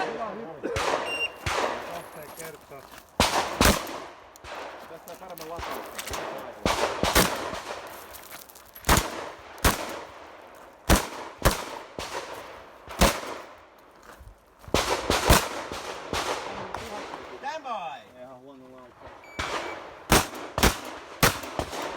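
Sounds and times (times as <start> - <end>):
shotgun shots: 0.0 - 2.3, 3.2 - 8.1, 8.8 - 13.6, 14.7 - 17.6, 19.0 - 21.9.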